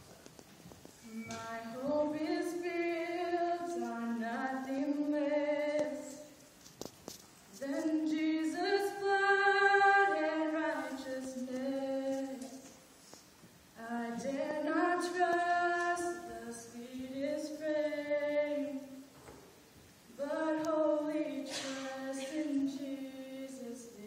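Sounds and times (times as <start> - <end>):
woman singing unaccompanied: 1.0 - 6.4, 7.5 - 12.7, 13.8 - 19.1, 20.1 - 24.0.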